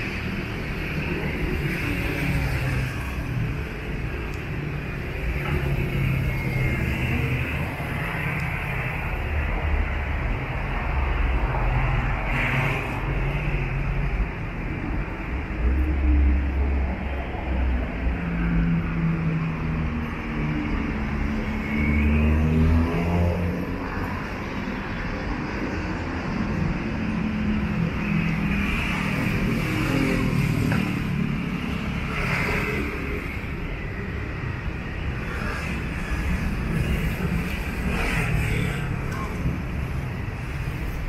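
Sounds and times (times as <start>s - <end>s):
car engines passing: 0.0s - 41.0s.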